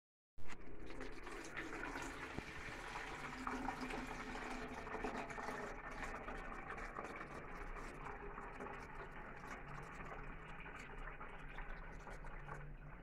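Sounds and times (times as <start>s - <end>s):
tap water running into container: 0.5s - 13.0s.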